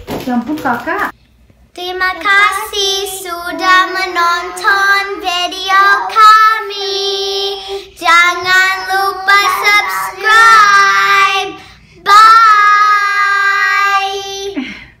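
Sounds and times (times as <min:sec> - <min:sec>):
children singing in unison: 0:02.2 - 0:14.6.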